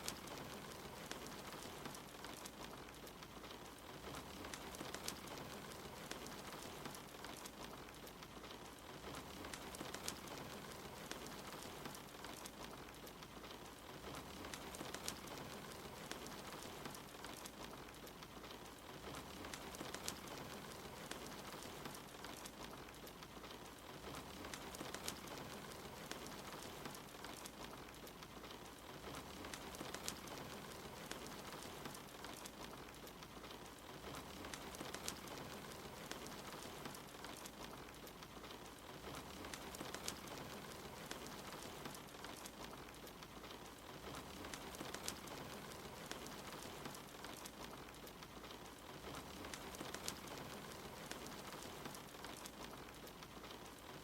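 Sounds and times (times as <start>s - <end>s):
soft steady rain: 0.0s - 54.0s
wood fire crackling and popping: 0.0s - 54.0s.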